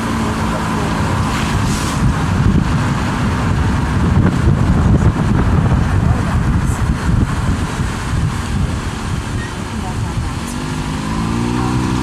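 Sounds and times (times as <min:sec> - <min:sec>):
wind buffeting microphone: 0:00.1 - 0:12.0.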